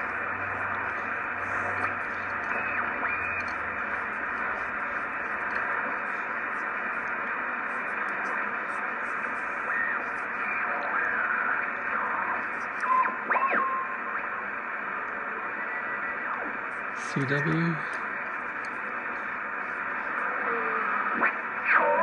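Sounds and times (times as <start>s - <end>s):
faint radio signal tones: 0.0s - 22.0s
radio static hiss: 0.0s - 22.0s.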